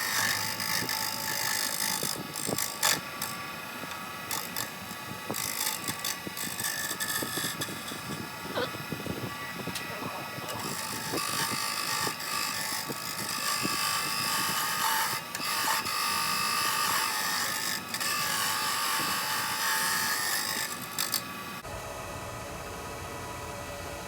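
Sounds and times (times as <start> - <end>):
wood lathe running: 0.0 - 8.5, 10.5 - 21.7
chisel scraping spinning wood: 0.0 - 8.7, 10.4 - 21.3.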